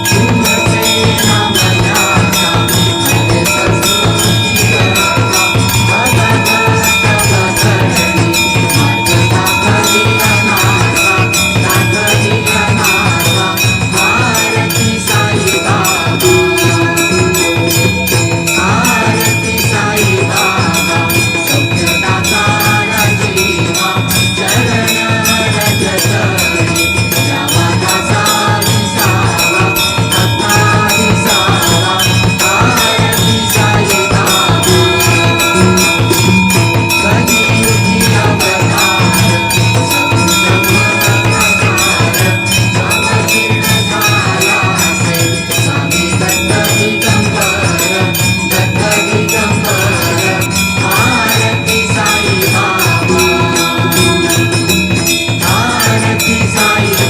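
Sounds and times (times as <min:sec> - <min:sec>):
devotional music: 0:00.0 - 0:57.0
hand bell ringing rapidly: 0:00.0 - 0:57.0.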